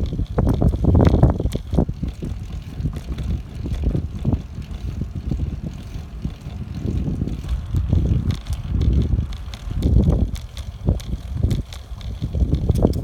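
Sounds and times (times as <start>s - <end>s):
bike knocks and rattles: 0.0s - 13.0s
wind buffeting microphone: 0.0s - 13.0s.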